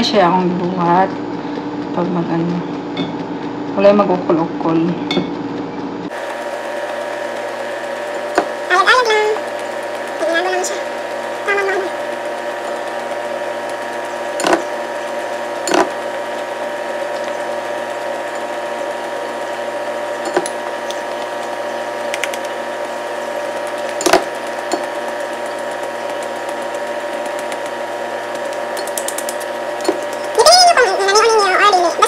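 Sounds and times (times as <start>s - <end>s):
machine hum with held tones: 0.0s - 32.0s.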